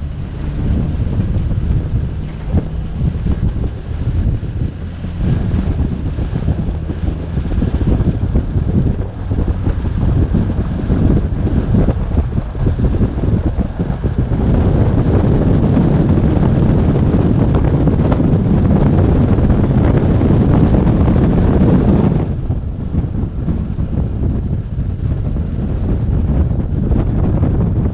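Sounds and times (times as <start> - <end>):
vehicle running noise: 0.0 - 27.9
wind buffeting microphone: 0.0 - 27.9.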